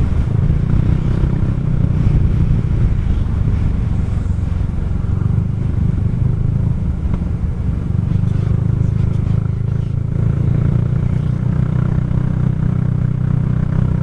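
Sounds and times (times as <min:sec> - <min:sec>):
scooter engine rumbling: 0:00.0 - 0:14.0.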